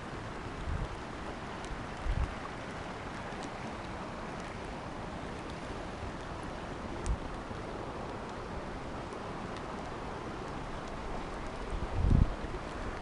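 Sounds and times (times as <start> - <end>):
campfire flames hissing: 0.0 - 13.0.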